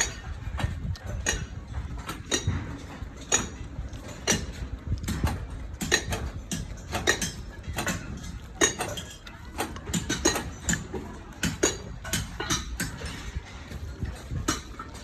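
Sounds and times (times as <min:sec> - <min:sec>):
background bustle: 0:00.0 - 0:15.0
hard objects clinking and knocking: 0:00.0 - 0:15.0.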